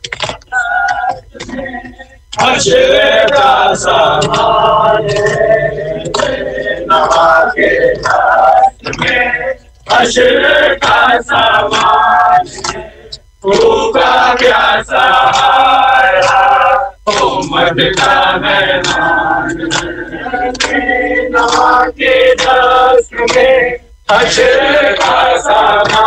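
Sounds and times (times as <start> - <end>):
men chanting in unison: 0.5 - 26.0.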